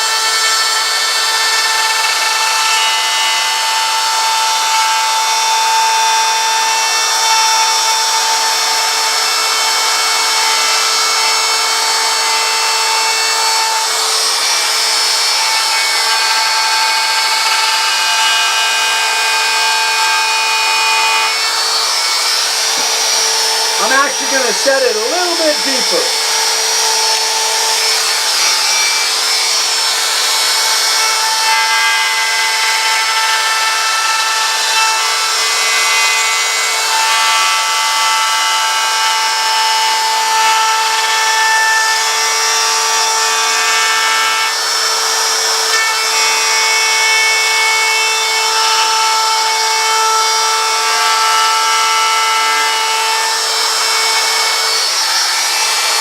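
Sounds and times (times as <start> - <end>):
router cutting wood: 0.0 - 56.0.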